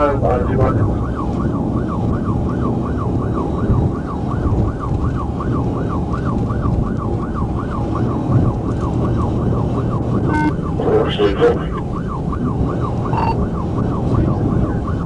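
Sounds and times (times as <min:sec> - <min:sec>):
car engine and road noise: 0:00.0 - 0:15.0
police siren yelping: 0:00.0 - 0:15.0.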